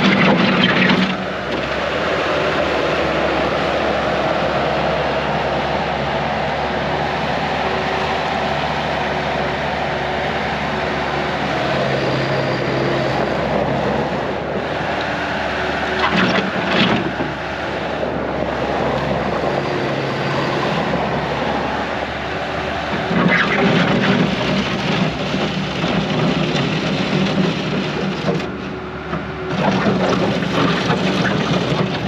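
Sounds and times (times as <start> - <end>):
skid steer engine running: 0.0 - 32.0.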